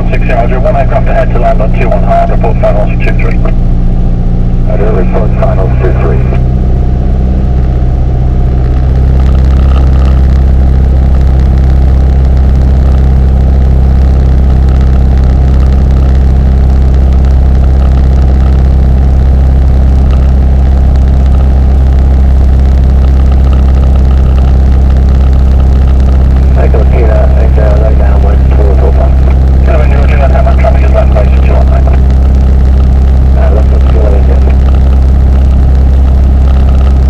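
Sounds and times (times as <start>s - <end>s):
propeller plane engine droning: 0.0s - 37.0s.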